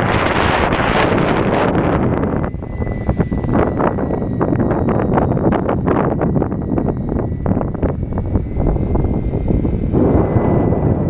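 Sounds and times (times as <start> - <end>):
model helicopter high whine: 0.0 - 11.0
wind buffeting microphone: 0.0 - 11.0.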